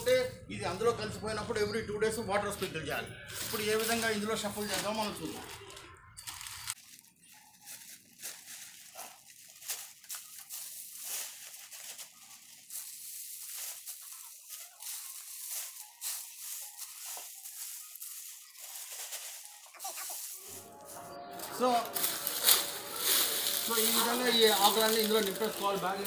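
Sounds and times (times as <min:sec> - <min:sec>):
dry leaves crunching: 0:03.2 - 0:26.0
plastic bag rustling: 0:03.3 - 0:26.0.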